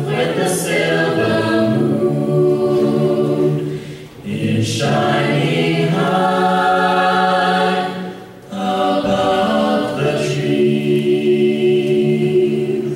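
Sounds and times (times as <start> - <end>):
choir singing held chords: 0.0 - 12.9.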